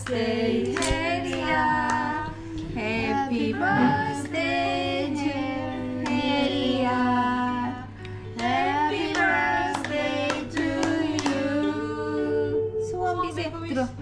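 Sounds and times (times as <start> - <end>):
people singing together: 0.0 - 13.0.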